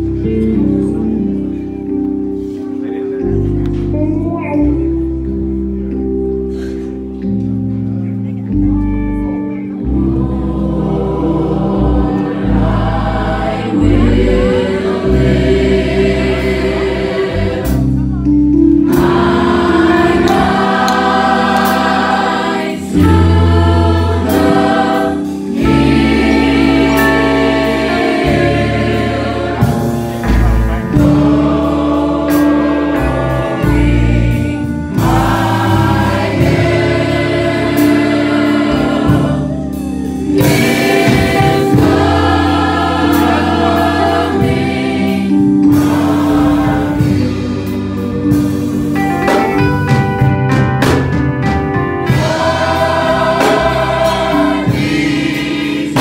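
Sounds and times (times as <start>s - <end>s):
gospel choir singing: 0.0s - 3.9s, 9.6s - 56.0s
electric keyboard bass notes: 0.0s - 56.0s.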